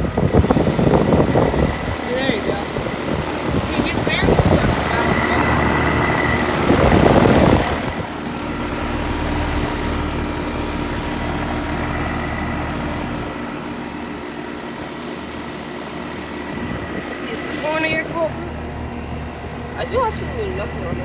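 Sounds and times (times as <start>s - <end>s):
loud rush of noise: 0.0s - 19.8s
air conditioner unit humming: 0.0s - 21.0s.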